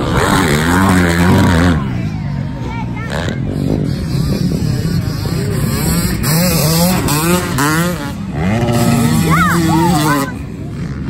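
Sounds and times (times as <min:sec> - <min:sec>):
dirt bike engines racing: 0:00.0 - 0:11.0.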